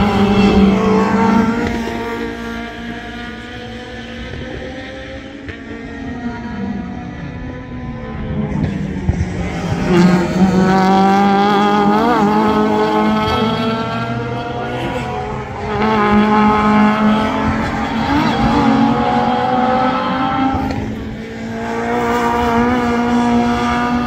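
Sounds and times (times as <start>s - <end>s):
race cars passing at high revs: 0.0s - 24.0s.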